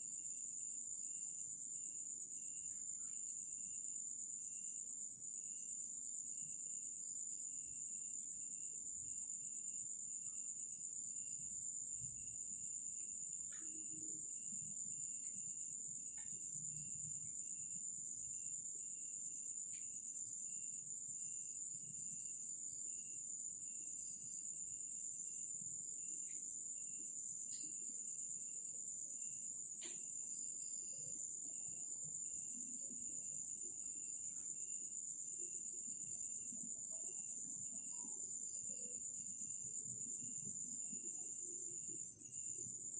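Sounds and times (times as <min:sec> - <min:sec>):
crickets trilling: 0:00.0 - 0:42.9
insect chirping in even pulse: 0:07.5 - 0:42.9.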